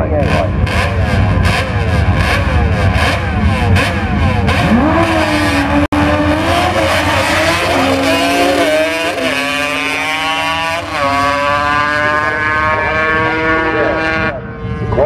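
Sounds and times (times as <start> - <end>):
quad engine revving and shifting: 0.0 - 15.0.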